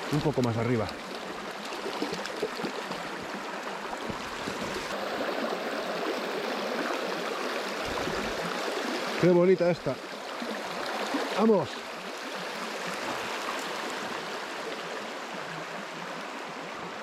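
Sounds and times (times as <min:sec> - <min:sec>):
river rushing over stones: 0:00.0 - 0:17.0.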